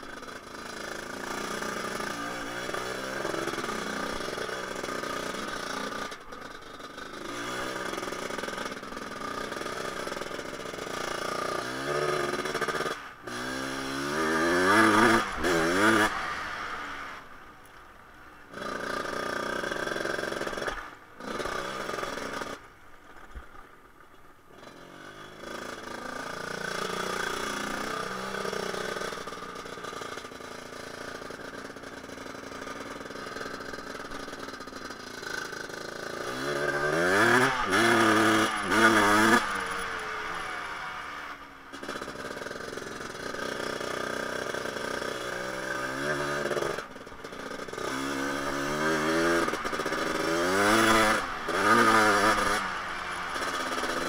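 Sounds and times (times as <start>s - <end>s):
two-stroke engine revving: 0.0s - 17.5s, 18.4s - 23.5s, 24.5s - 54.0s.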